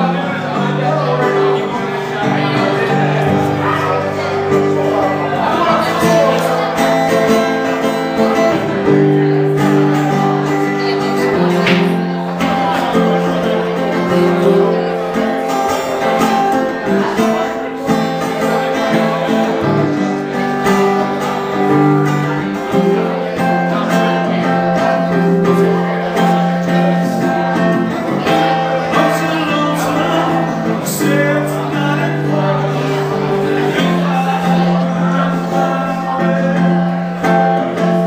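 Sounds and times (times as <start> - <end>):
acoustic guitar strumming chords: 0.0 - 38.0.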